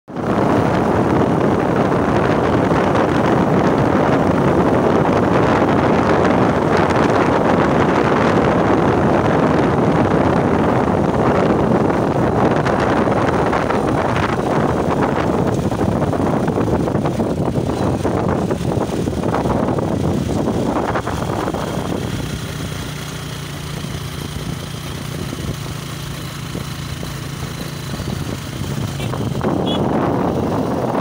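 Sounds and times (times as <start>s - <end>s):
small vehicle running: 0.1s - 31.0s
wind rushing over microphone: 0.1s - 31.0s.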